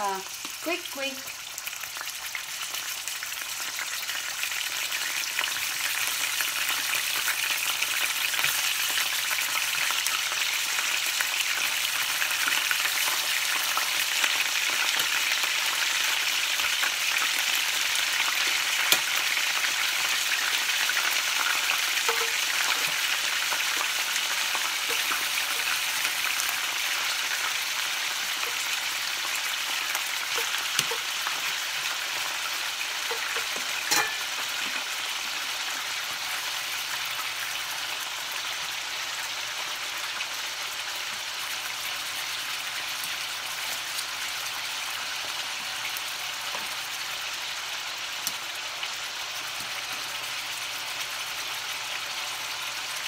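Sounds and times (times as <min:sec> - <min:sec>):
meat sizzling in a pan: 0:00.0 - 0:53.0.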